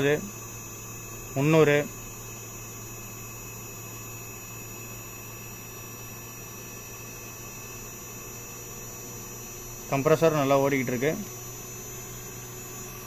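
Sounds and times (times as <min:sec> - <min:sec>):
faint high-pitched whines: 0:00.0 - 0:13.0
low electrical hum: 0:00.0 - 0:13.0.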